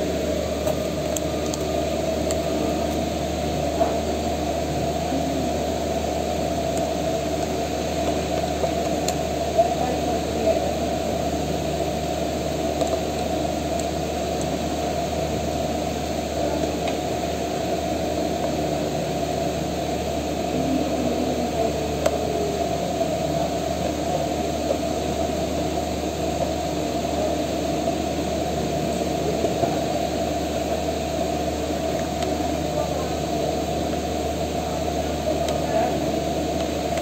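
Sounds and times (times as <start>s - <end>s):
mechanical hum: 0.0s - 37.0s.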